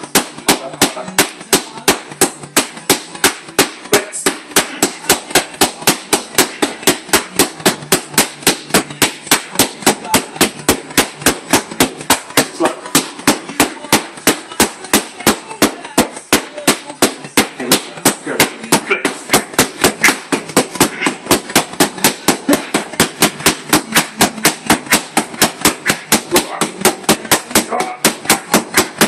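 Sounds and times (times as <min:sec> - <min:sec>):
boxing gloves hitting mitts: 0:00.0 - 0:29.0.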